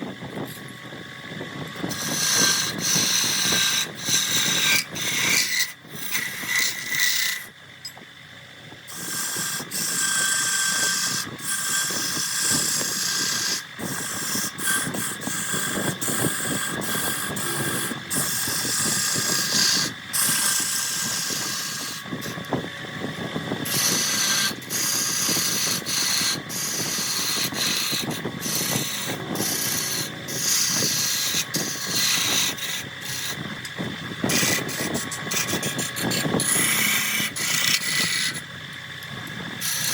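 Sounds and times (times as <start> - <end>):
wood lathe tool cutting log: 0.0 - 8.2, 8.8 - 39.9.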